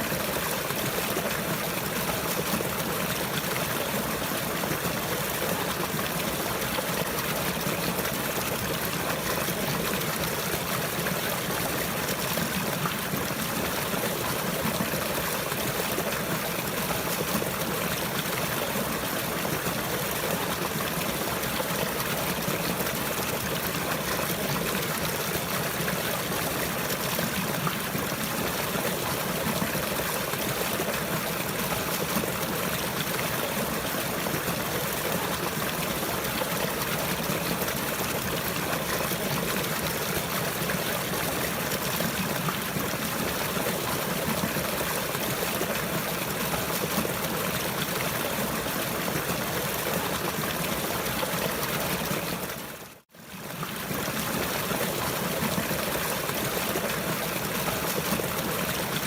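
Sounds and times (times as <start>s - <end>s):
trickling stream: 0.0s - 59.0s.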